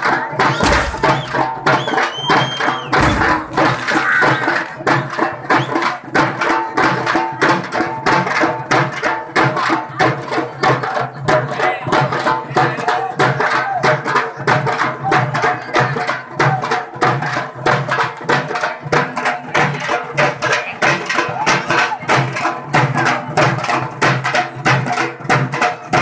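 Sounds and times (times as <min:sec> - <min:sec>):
drum-led folk music: 0:00.0 - 0:26.0.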